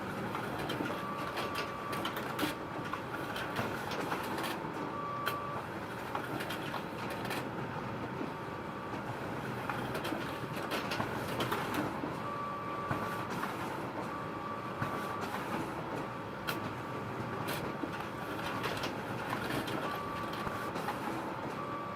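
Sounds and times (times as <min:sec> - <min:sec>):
photocopier whirring: 0:00.0 - 0:21.9.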